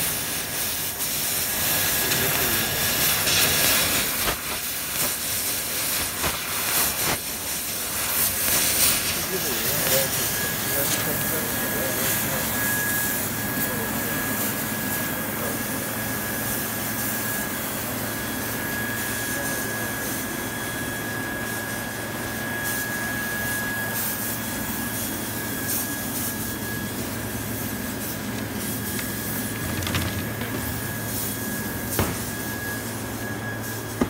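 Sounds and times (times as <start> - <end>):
laser cutting machine running: 0.0 - 34.0.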